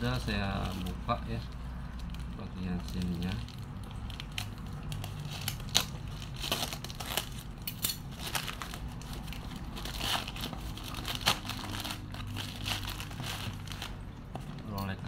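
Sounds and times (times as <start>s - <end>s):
plastic bag crinkling: 0.0s - 15.0s
scissors cutting plastic: 0.0s - 15.0s.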